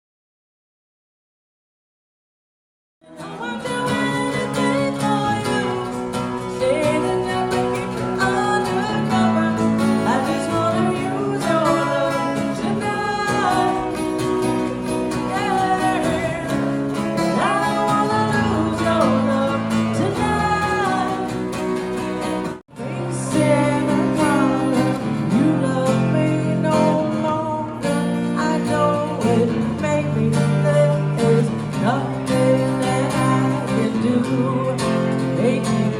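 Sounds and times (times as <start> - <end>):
strummed acoustic guitar: 3.0 - 35.9.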